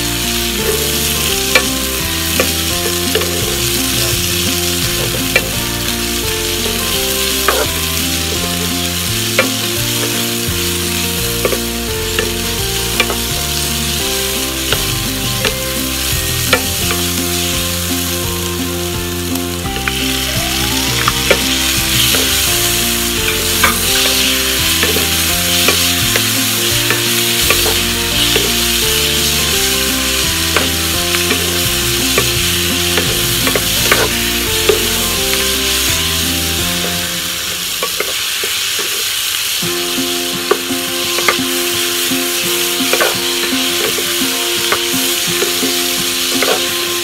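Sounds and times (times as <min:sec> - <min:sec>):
soft background music: 0:00.0 - 0:38.4, 0:39.6 - 0:47.0
vegetables sizzling in hot oil: 0:00.0 - 0:47.0.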